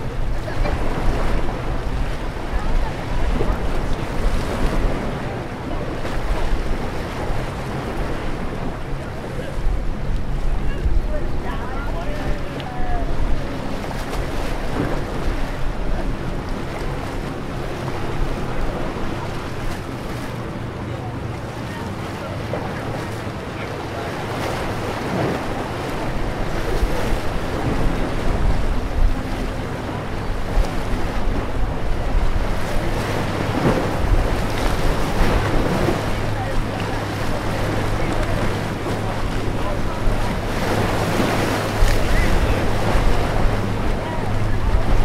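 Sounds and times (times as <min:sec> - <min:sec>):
water lapping against jetty: 0:00.0 - 0:45.0
wind buffeting microphone: 0:00.0 - 0:45.0.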